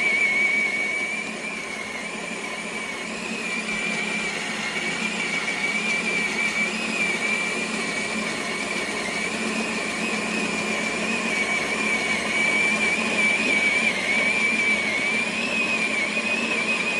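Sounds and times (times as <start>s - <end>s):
electric coffee grinder grinding: 0.0s - 16.9s.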